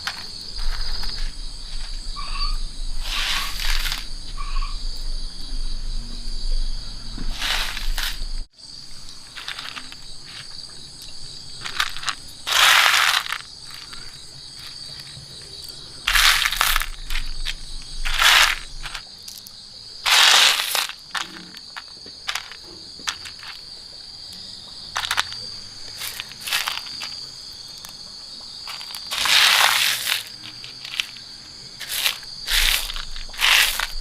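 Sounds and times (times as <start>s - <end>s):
loud rasping crunching noises: 0.0s - 4.8s, 7.1s - 8.5s, 9.1s - 23.8s, 24.9s - 34.0s
insects chirring: 0.0s - 34.0s.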